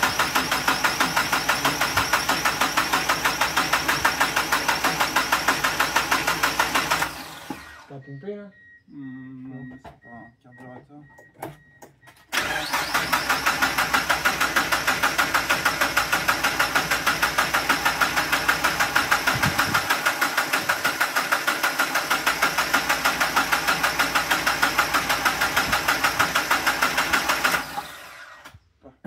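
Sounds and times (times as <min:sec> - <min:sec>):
starter cranking engine: 0:00.0 - 0:07.9, 0:12.3 - 0:28.5.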